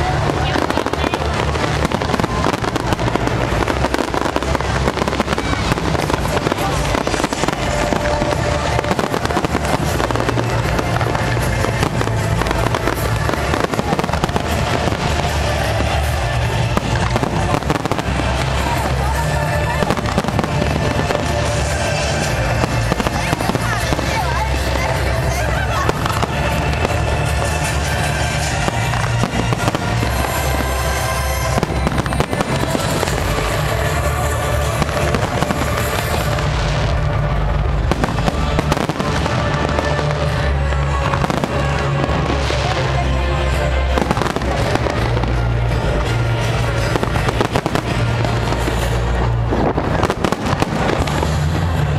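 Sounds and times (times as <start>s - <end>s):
fireworks booming: 0.0s - 51.9s
fireworks crackling and popping: 0.0s - 51.9s
music playing: 0.0s - 51.9s.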